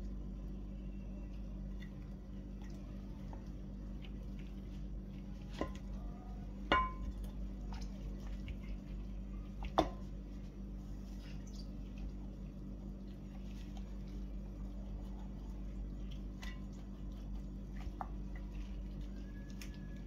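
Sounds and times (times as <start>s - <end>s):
steady low hum: 0.0s - 20.0s
wet squishing of raw meat: 1.2s - 20.0s.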